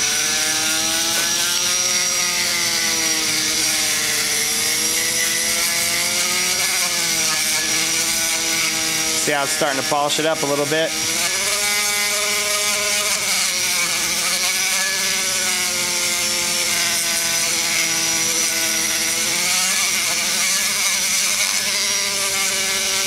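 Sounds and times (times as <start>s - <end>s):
die grinder sanding metal: 0.0s - 23.0s.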